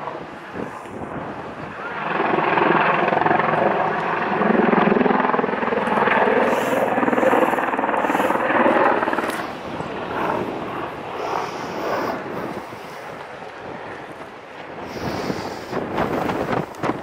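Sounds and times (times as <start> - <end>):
helicopter rotor and engines: 0.0 - 17.0.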